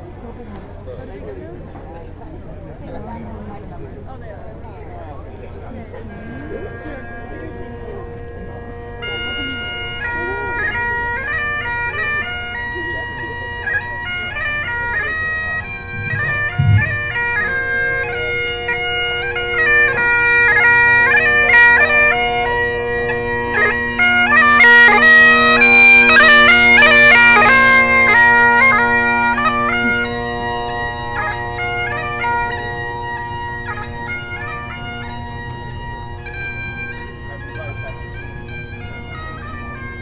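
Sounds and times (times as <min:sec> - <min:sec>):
bagpipes playing a tune: 0:05.4 - 0:40.0.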